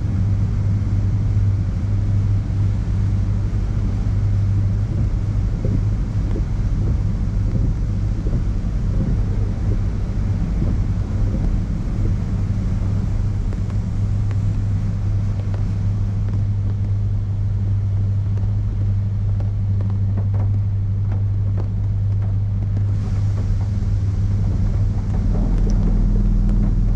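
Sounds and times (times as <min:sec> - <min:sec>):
machinery low hum: 0:00.0 - 0:26.9.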